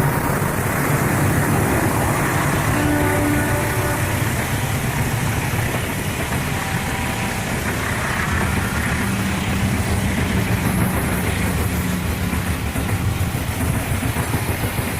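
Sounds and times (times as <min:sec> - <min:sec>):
diesel locomotive rumble: 0:00.0 - 0:14.9.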